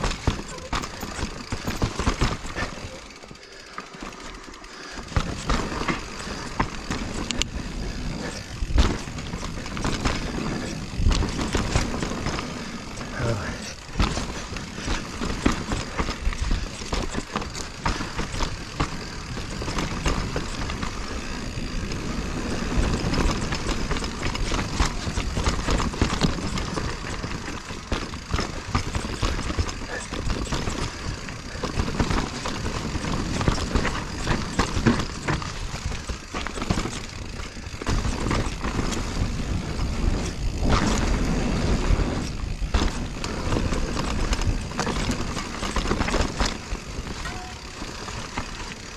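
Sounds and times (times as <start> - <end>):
bike rattling over bumps: 0.0 - 48.9
tyres rolling over dirt: 0.0 - 48.9.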